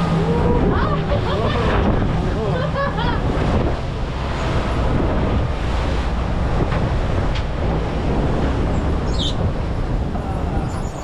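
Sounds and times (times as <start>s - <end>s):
ocean waves and surf: 0.0s - 11.0s
wind buffeting microphone: 0.0s - 11.0s.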